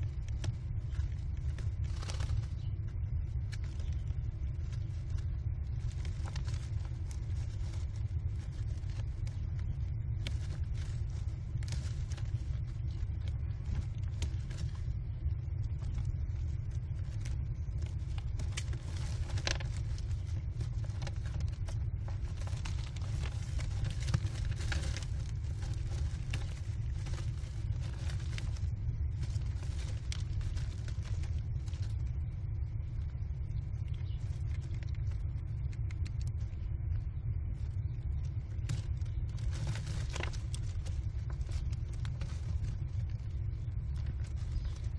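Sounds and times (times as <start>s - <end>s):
low rumble: 0.0s - 44.9s
birds scratching and flapping: 0.2s - 32.1s, 37.9s - 44.9s.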